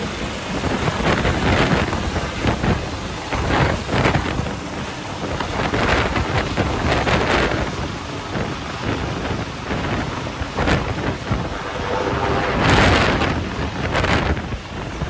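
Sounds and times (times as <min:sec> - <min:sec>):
helicopter rotor hovering: 0:00.0 - 0:15.0
wind buffeting microphone: 0:00.1 - 0:15.0.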